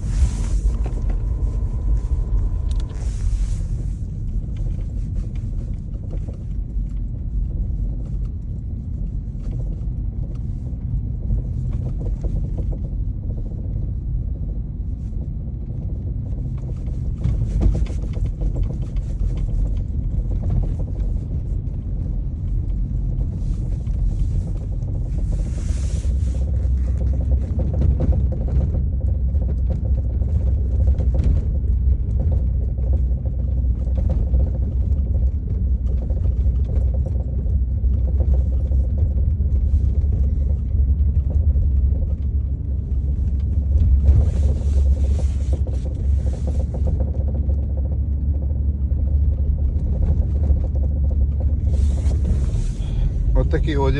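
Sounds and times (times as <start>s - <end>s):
road and tyre rumble: 0.0s - 53.9s.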